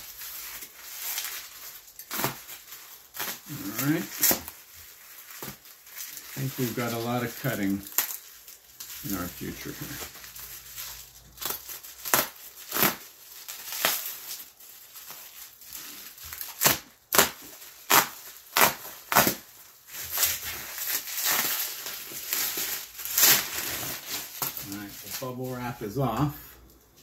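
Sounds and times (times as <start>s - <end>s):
bubble wrap crackling: 0.0s - 27.0s
plastic crinkling and rustling: 0.0s - 27.0s.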